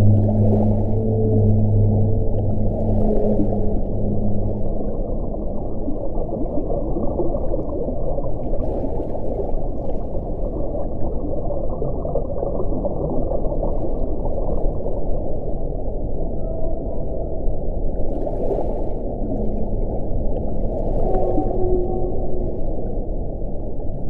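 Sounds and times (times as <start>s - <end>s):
deep steady wind: 0.0s - 24.0s.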